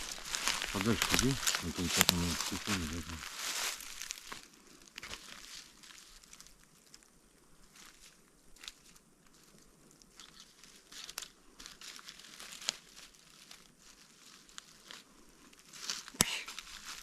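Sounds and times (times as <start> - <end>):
forest litter rustling and crunching: 0.0 - 17.0.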